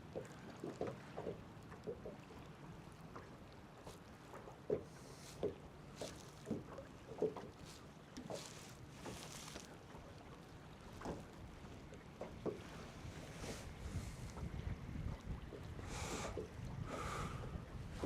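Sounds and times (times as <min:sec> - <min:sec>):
faint wind: 0:00.0 - 0:18.0
waves slapping against boat hull: 0:00.0 - 0:18.0.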